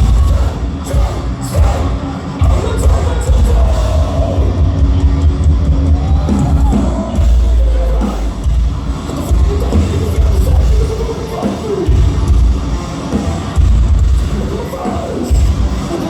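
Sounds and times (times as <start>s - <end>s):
heavy rock band playing live: 0.0s - 16.0s
pounding drums: 0.0s - 16.0s.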